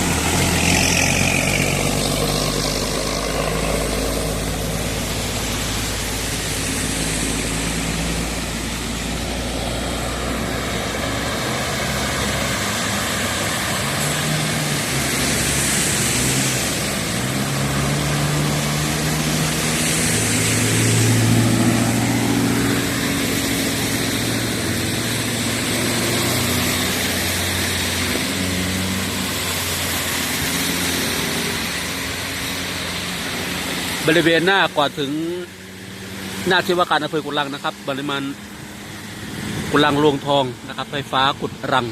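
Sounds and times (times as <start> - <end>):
motor vehicle engine running: 0.0 - 36.8
steady rush of noise: 0.0 - 41.9.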